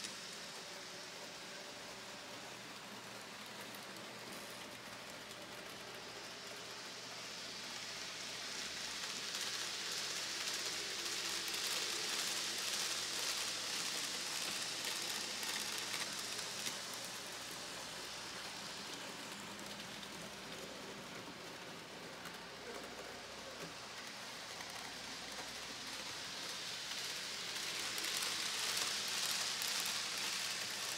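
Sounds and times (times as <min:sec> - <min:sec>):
model trains running on rails: 0:00.0 - 0:30.9.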